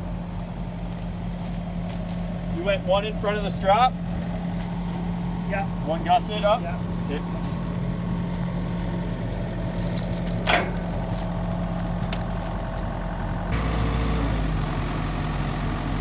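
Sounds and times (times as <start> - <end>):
heavy diesel engine idling: 0.0 - 16.0.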